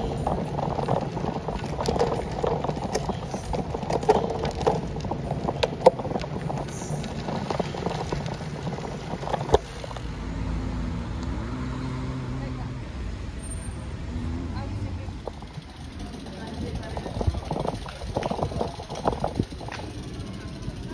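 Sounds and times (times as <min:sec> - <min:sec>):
bicycle rattling and ticking: 0:00.0 - 0:10.6, 0:14.6 - 0:20.9
vehicle engine hum: 0:00.0 - 0:20.9.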